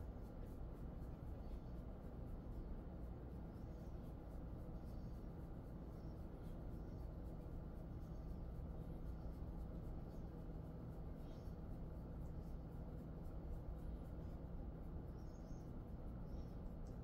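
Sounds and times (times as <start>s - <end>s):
hands rubbing dog's fur: 0.0s - 17.0s
steady low hum: 0.0s - 17.0s.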